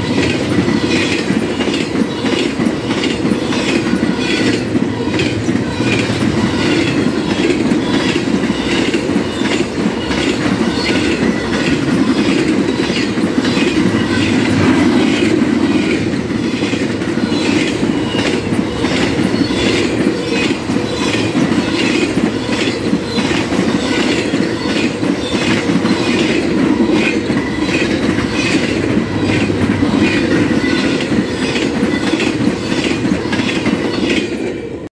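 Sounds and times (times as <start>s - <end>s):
wheels clicking over rail joints: 0.0s - 34.5s
freight train rail rumble: 0.0s - 34.9s.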